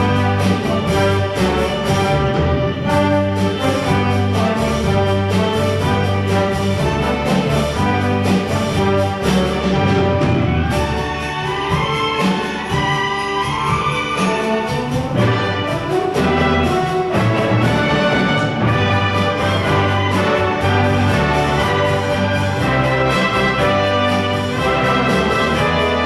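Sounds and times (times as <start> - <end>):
orchestra with brass playing: 0.0 - 26.0.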